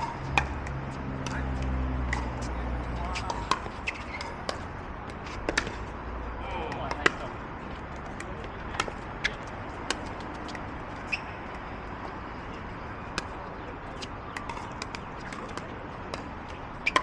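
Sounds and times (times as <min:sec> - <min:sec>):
paddles hitting ball: 0:00.0 - 0:05.9, 0:06.6 - 0:11.2, 0:13.1 - 0:17.0.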